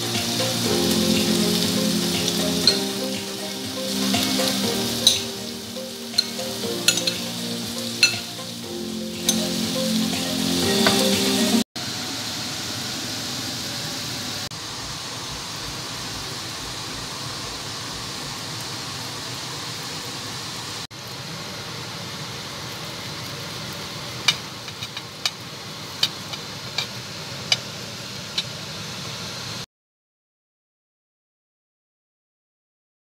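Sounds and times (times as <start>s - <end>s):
steady hiss: 0.0s - 29.6s.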